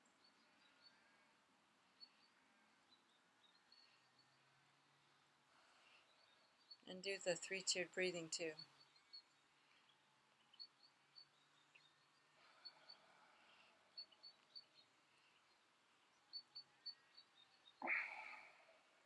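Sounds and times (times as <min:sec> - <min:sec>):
faint high bird chirps: 0:00.0 - 0:19.0.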